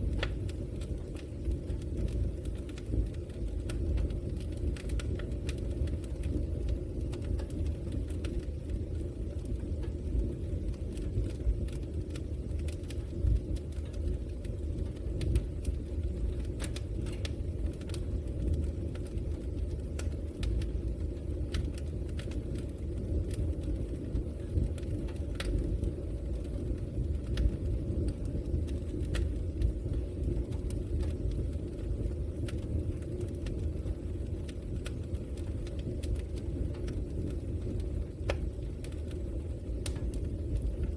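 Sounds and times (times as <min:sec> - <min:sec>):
fire crackling and popping: 0:00.0 - 0:40.9
fire rumbling: 0:00.0 - 0:40.9.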